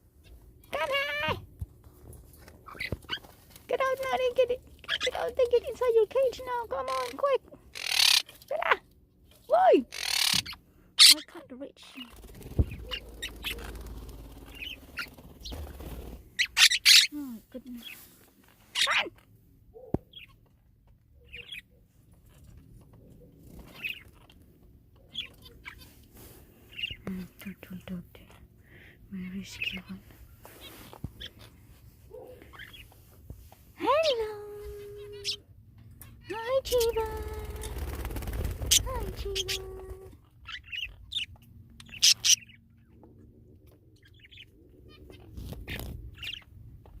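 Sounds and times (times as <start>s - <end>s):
birds chirping: 0.0s - 1.5s, 2.4s - 47.0s.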